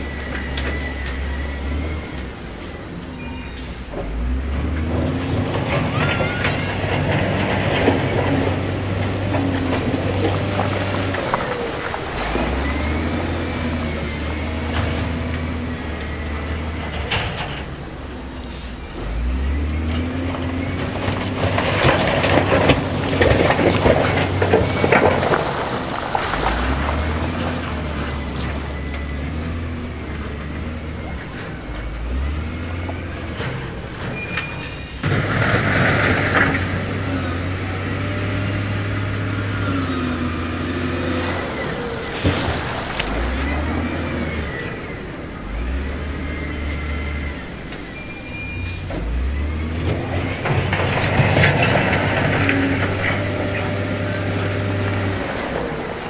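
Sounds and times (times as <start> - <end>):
diesel machinery engines droning: 0.0 - 56.0.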